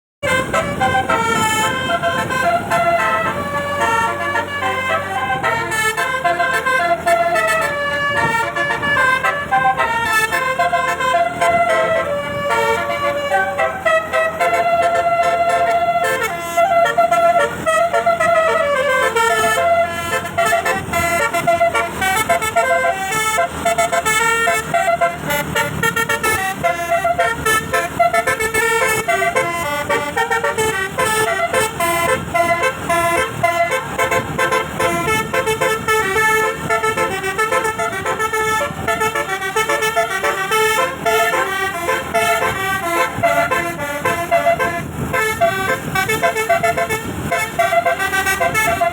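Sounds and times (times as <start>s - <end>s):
multi-tone air horn melodies: 0.2s - 48.9s.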